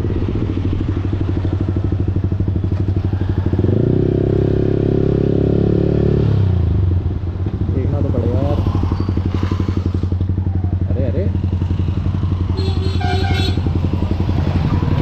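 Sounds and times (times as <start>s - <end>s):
motorcycle engine burbling and revving: 0.0s - 15.0s.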